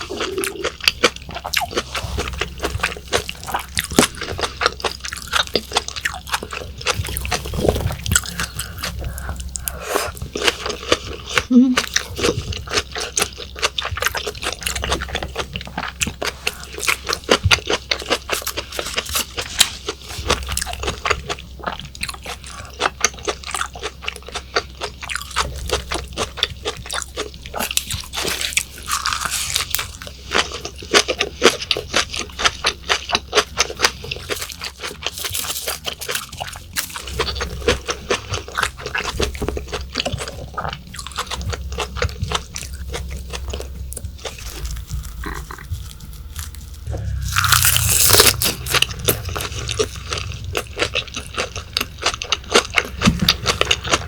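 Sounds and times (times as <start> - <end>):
close chewing with wet mouth clicks: 0.0 - 46.9, 49.4 - 54.0.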